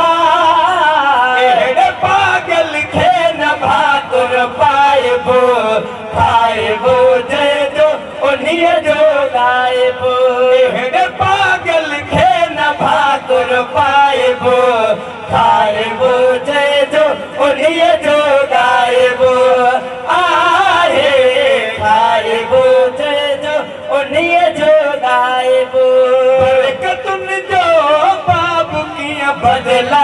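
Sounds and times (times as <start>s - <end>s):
men singing devotional chant: 0.0s - 30.0s.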